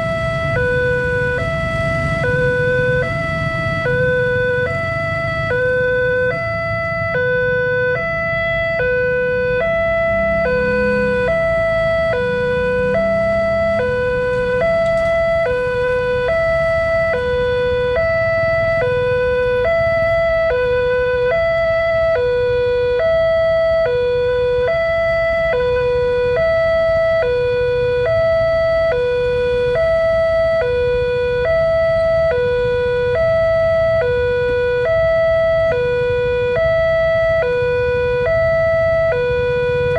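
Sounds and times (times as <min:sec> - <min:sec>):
motorcycle engines humming: 0:00.0 - 0:39.9.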